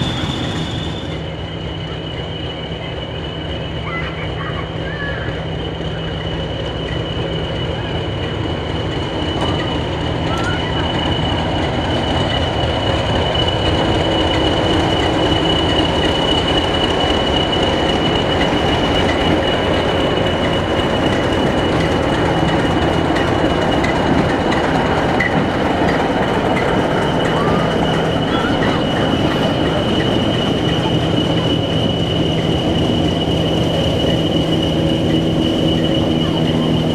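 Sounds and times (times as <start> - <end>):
diesel locomotives running past: 0.0 - 36.9
steady high whine: 0.0 - 36.9.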